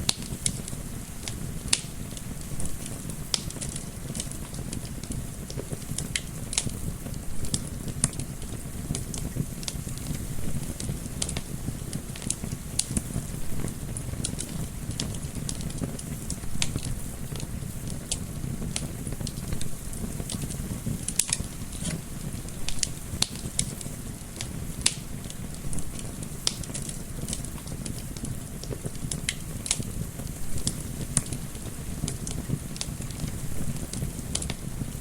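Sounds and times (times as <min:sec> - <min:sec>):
low rumble of flame: 0:00.0 - 0:35.0
wood fire crackling and popping: 0:00.0 - 0:35.0.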